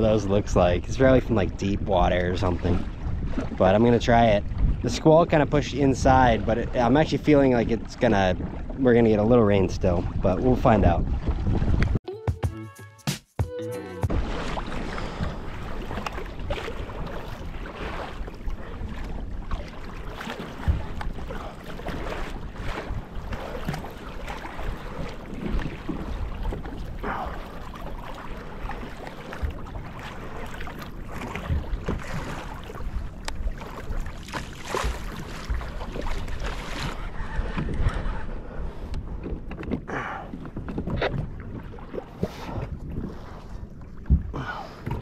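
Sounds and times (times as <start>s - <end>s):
water slapping against kayak hull: 0.0s - 12.0s, 14.0s - 45.0s
wind buffeting microphone: 0.0s - 12.0s, 14.1s - 45.0s.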